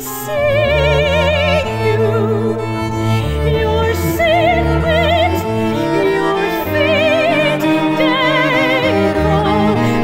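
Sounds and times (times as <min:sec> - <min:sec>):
instrumental ensemble: 0:00.0 - 0:10.0
operatic soprano singing: 0:00.0 - 0:10.0.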